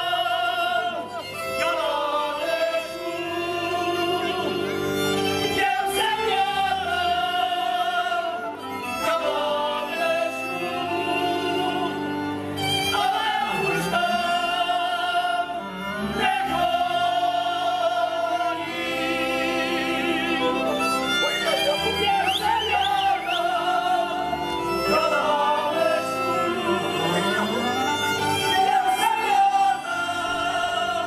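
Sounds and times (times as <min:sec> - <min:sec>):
men singing together: 0:00.0 - 0:04.6, 0:05.5 - 0:12.3, 0:12.9 - 0:20.7, 0:21.5 - 0:27.3, 0:28.4 - 0:31.0
folk string band with fiddle: 0:00.0 - 0:31.0.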